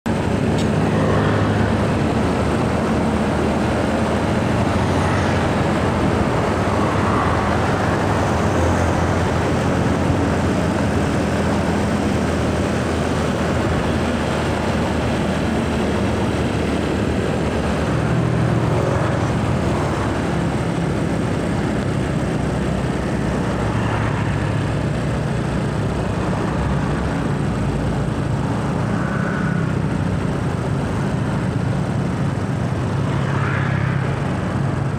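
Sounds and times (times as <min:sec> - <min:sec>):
motor scooters passing: 0:00.1 - 0:34.9
truck engine passing: 0:00.1 - 0:34.9.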